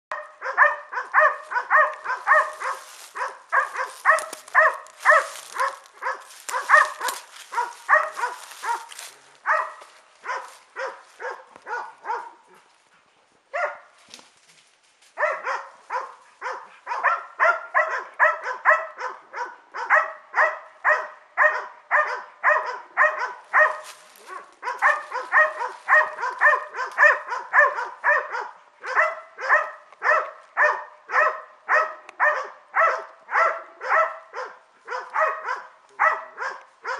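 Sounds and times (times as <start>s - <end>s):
hounds barking: 0.1s - 12.7s, 13.5s - 14.0s, 15.2s - 36.9s.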